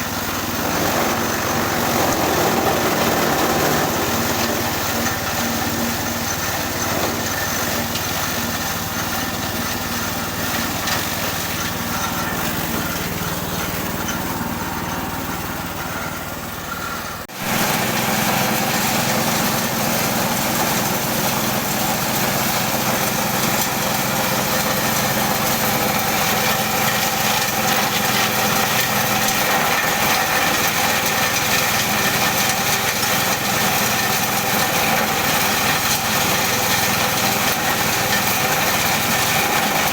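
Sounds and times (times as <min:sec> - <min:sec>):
forage chopper engine drone: 0:00.0 - 0:39.9.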